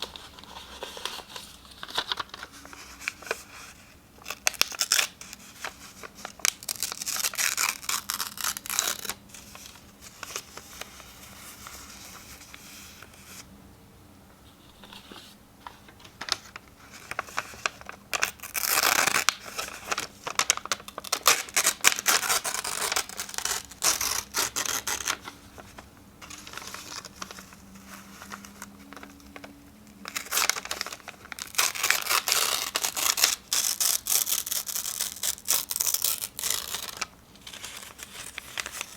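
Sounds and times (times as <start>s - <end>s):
paper tearing and crinkling: 0.0s - 12.2s, 16.1s - 38.9s.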